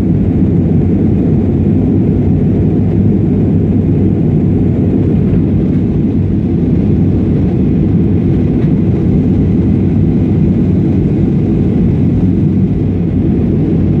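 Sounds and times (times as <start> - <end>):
airliner engines rumbling: 0.0 - 14.0.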